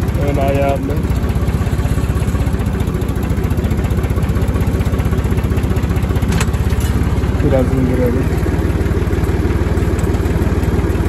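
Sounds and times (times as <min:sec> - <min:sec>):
diesel tractor engine idling: 0:00.0 - 0:11.0.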